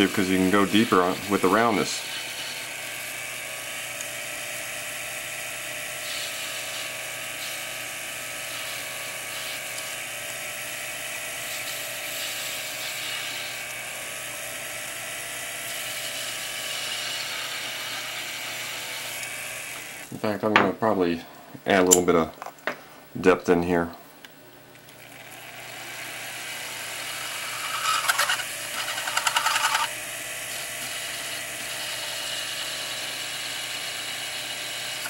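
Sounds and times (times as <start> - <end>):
graver cutting brass: 0.0 - 20.1, 25.9 - 35.0
small lathe motor whine: 0.0 - 20.1, 25.2 - 35.0.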